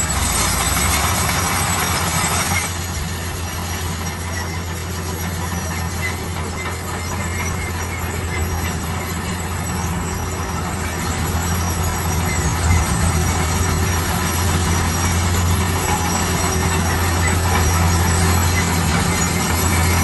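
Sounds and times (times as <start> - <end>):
heavy machinery engine drone: 0.0 - 20.0
mechanical clatter and scraping: 0.0 - 20.0.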